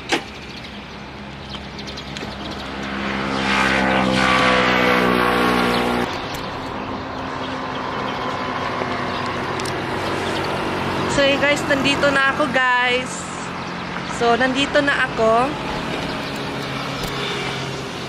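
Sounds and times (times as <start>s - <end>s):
engine hum: 0.0s - 18.0s
motorcycle passing by: 0.6s - 18.0s.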